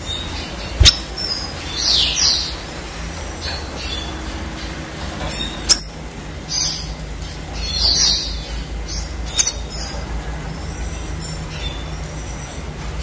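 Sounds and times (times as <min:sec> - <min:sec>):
bird chirping: 0:00.0 - 0:13.0
low background hum: 0:00.0 - 0:13.0.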